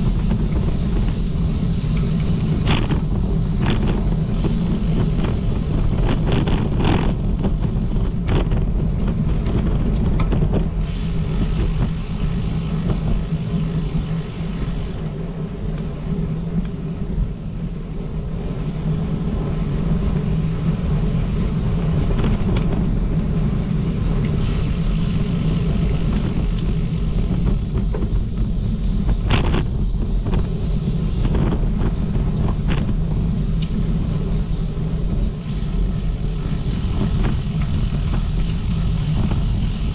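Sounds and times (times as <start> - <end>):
ground noise while riding: 0.0 - 39.9
wind buffeting microphone: 0.0 - 39.9.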